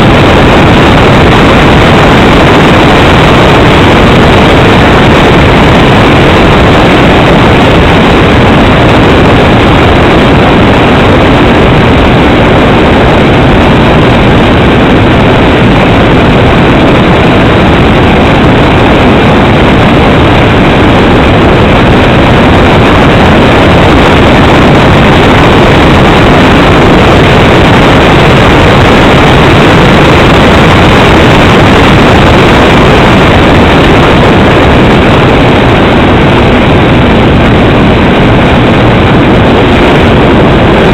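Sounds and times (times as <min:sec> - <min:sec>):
aircraft engine and airflow noise: 0:00.0 - 0:40.9.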